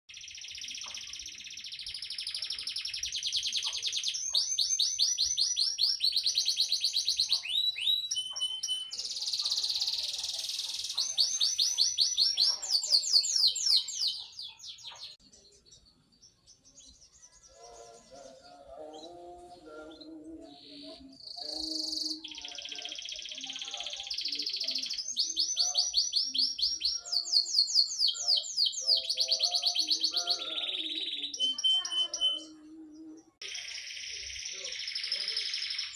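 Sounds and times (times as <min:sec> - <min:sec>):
canary singing: 0:00.1 - 0:15.7, 0:16.4 - 0:35.9.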